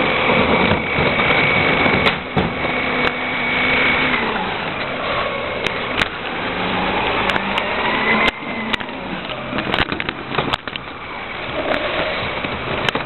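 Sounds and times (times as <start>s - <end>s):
garbage truck running: 0.0s - 13.0s
high whine: 0.0s - 13.0s.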